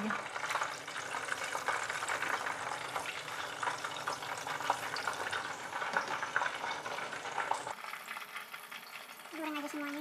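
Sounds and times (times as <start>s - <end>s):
tofu sizzling in hot oil: 0.0s - 10.0s.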